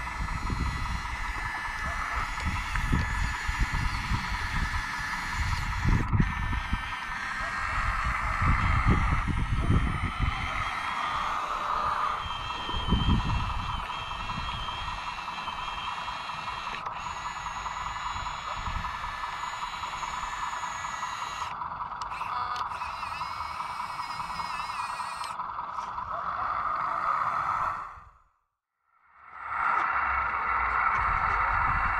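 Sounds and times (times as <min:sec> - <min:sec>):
hydraulic pump whining: 0:00.0 - 0:28.2, 0:29.2 - 0:31.9.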